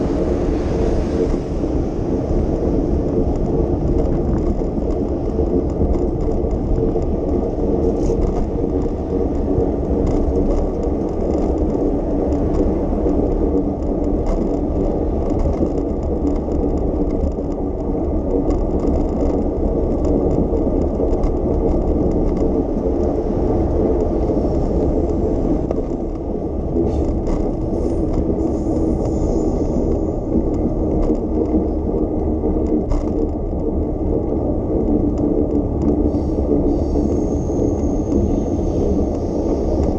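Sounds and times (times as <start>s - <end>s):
bicycle rattling: 0.0s - 39.9s
bicycle tyres rumbling on road: 0.0s - 39.9s.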